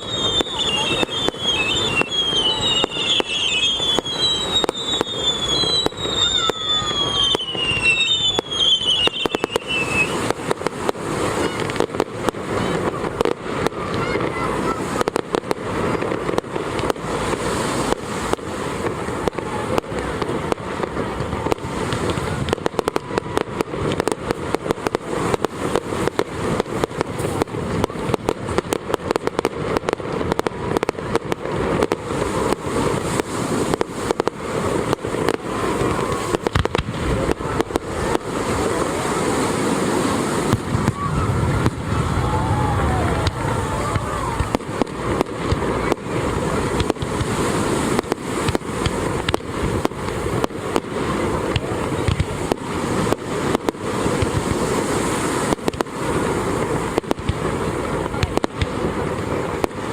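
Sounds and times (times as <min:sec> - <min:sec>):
deep fireworks booms: 0:00.0 - 0:59.9
fireworks bangs and crackles: 0:00.0 - 0:59.9.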